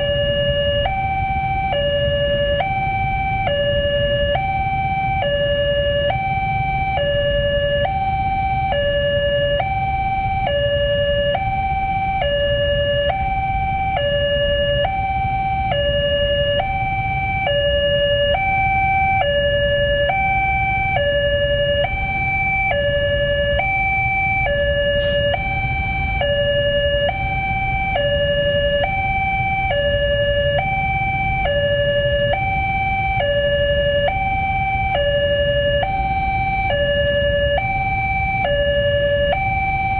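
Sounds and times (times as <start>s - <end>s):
idling traffic rumble: 0.0s - 39.9s
two-tone level crossing alarm: 0.0s - 39.9s.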